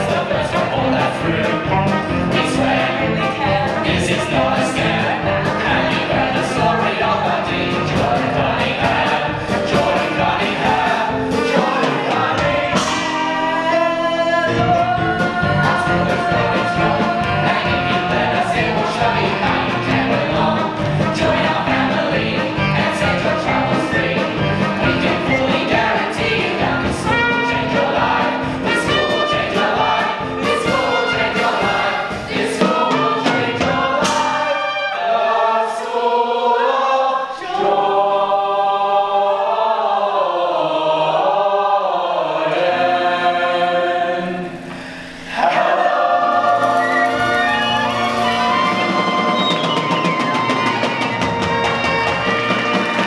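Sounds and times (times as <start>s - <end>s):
rhythmic accompaniment with steady beat: 0.0s - 34.8s, 44.5s - 53.0s
chorus singing in harmony: 0.0s - 53.0s.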